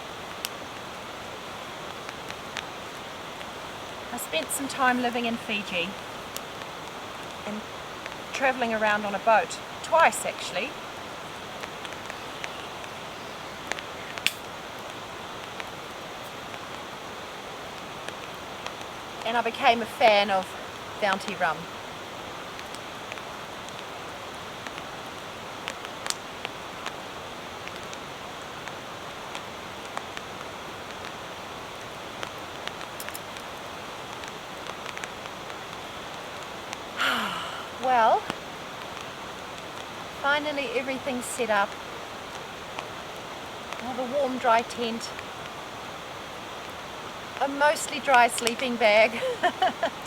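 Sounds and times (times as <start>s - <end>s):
light rain hiss: 0.0s - 50.0s.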